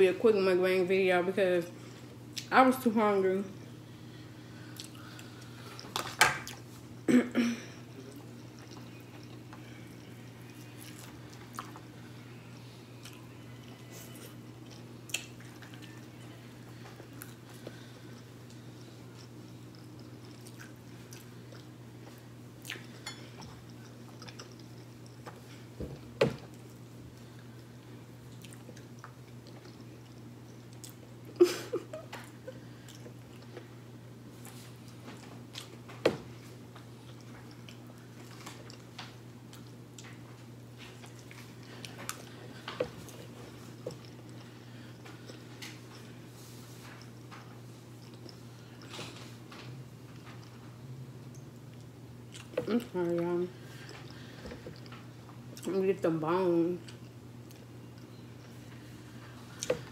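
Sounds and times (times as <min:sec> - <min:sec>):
steady low hum: 0:00.0 - 0:59.9
person chewing food: 0:04.6 - 0:07.0, 0:07.9 - 0:55.7, 0:56.8 - 0:59.9.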